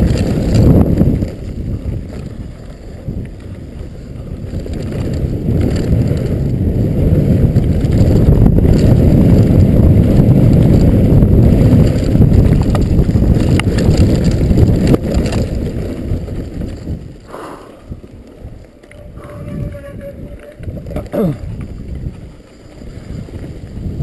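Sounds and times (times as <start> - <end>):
bike tyres on dirt trail: 0.0 - 24.0
wind rumbling on microphone: 0.0 - 24.0.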